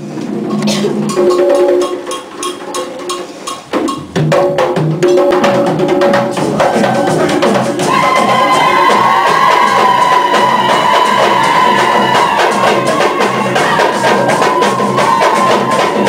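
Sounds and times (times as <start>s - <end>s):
drum group playing fast rhythm: 0.0s - 16.0s
sharp wood-block-like strikes: 0.3s - 16.0s.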